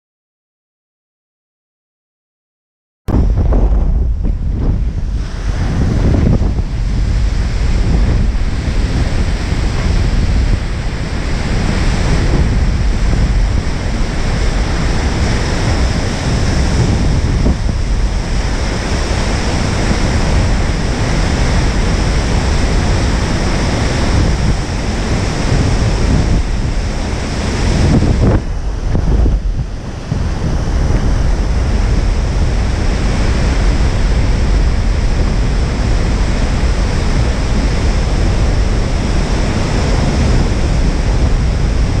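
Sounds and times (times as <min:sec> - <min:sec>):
breaking surf: 0:03.1 - 0:42.0
wind buffeting microphone: 0:03.1 - 0:42.0.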